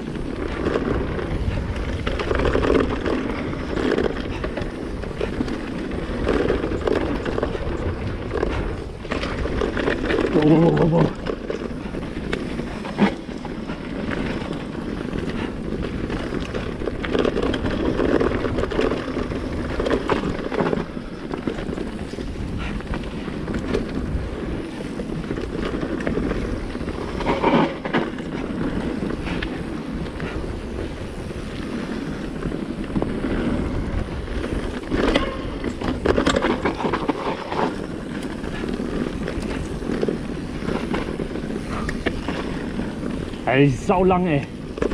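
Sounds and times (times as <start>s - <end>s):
bike knocking and rattling: 0.0s - 44.9s
bike tyres rumbling on loose ground: 0.0s - 44.9s
wind on microphone: 0.0s - 44.9s.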